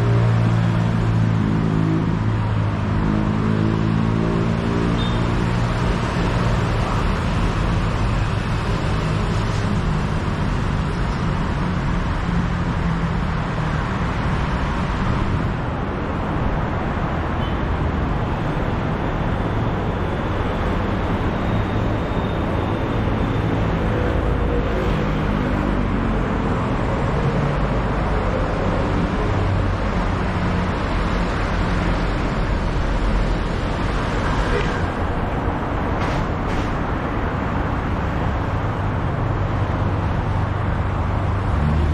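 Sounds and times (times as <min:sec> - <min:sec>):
road traffic: 0:00.0 - 0:41.9.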